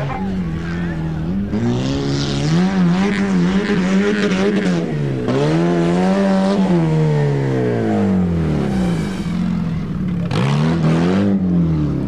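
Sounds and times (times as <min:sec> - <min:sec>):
race vehicle engine revving: 0:00.0 - 0:12.0.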